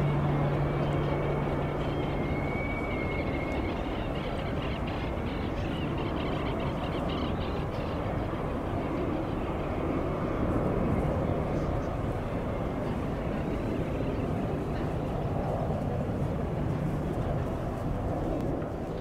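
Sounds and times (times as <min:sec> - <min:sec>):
aircraft engine roar: 0:00.0 - 0:19.0
faint high whine: 0:00.0 - 0:19.0.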